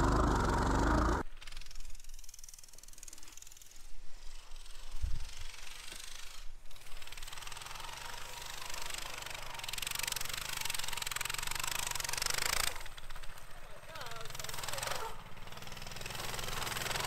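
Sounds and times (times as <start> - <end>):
distant small motorbike engine: 0.0 - 17.0.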